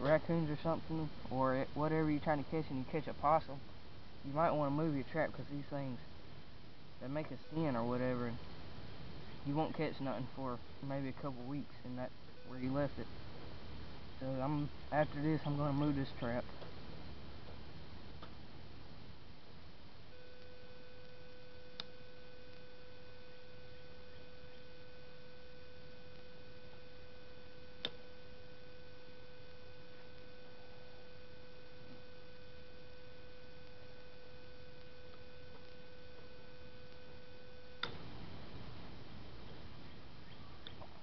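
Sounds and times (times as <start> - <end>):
steady high-pitched tone: 0.0 - 16.5, 19.8 - 40.6.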